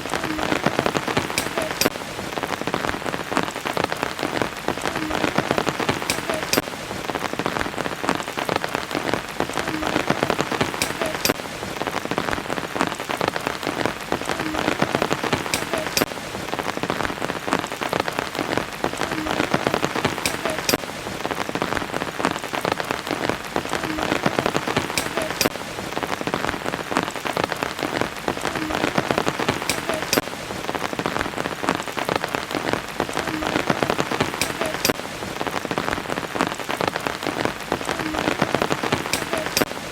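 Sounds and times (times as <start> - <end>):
sharp raindrop strikes: 0.0 - 39.9
steady rain falling: 0.0 - 39.9.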